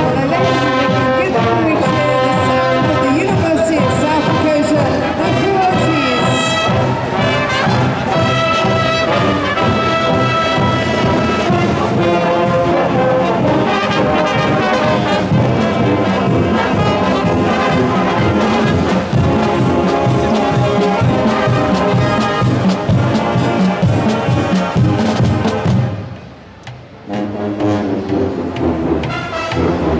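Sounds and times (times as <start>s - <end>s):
trumpets: 0.0s - 26.2s, 27.0s - 29.9s
trombones: 0.0s - 29.9s
saxophones: 0.2s - 26.1s
steady drum beat: 0.5s - 27.1s.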